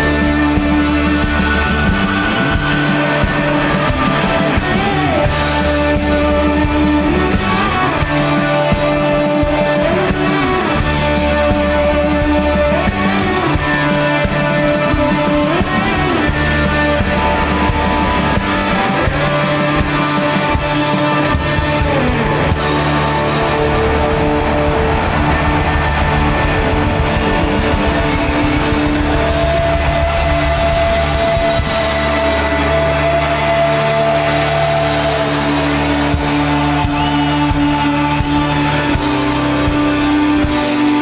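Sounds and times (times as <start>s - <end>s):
bass line: 0.0s - 41.0s
drums: 0.0s - 41.0s.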